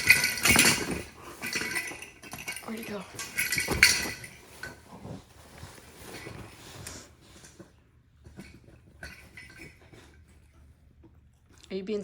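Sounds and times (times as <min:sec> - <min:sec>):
faint rustling: 0:00.0 - 0:10.8.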